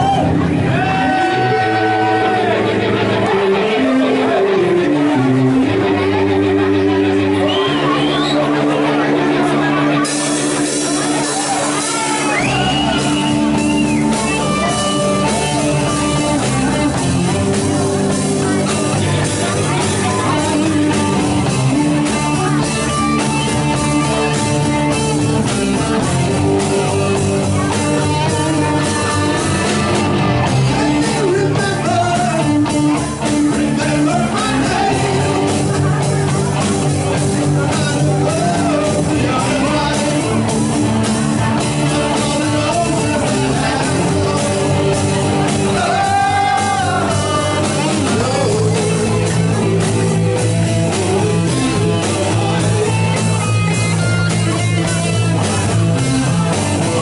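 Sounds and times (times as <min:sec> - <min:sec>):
bass guitar: 0:00.0 - 0:57.0
drums: 0:00.0 - 0:57.0
electric guitar: 0:00.0 - 0:57.0
keyboards: 0:00.0 - 0:57.0.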